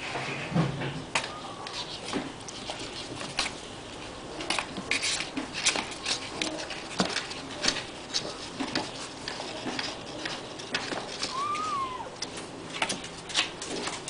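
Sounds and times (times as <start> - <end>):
paws scrabbling on cardboard: 1.2 - 14.0.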